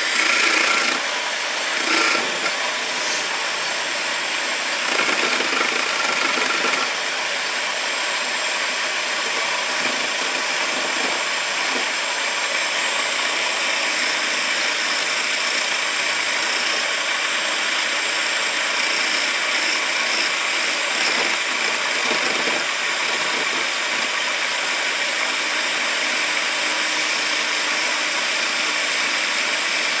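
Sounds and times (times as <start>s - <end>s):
electric drill whining: 0.0s - 30.0s.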